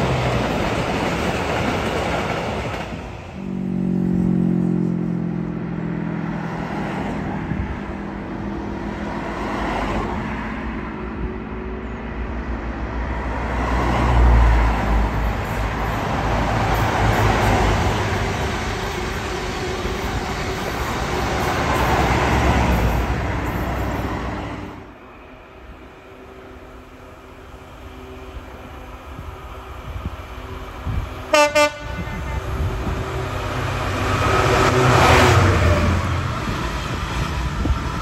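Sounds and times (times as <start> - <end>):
diesel train engines passing: 0.0 - 38.0
wheels rumbling on rails: 0.0 - 38.0.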